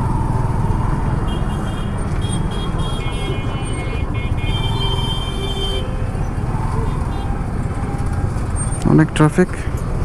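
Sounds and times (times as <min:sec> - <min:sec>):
traffic engines and road noise: 0:00.0 - 0:10.0.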